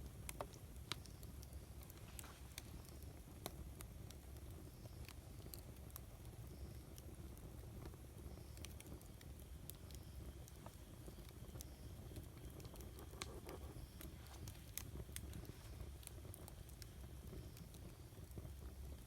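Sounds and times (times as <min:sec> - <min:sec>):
campfire crackling and popping: 0:00.0 - 0:19.0
low fire rumble: 0:00.0 - 0:19.0.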